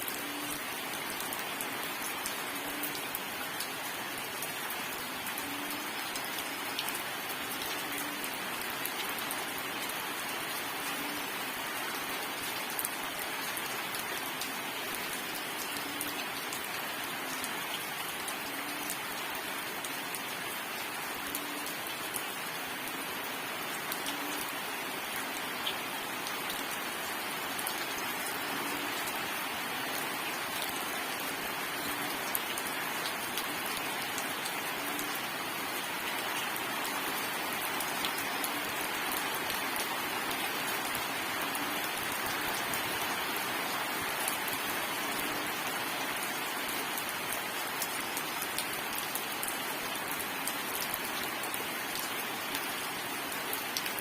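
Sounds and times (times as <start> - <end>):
rain hissing on a surface: 0.0 - 54.0.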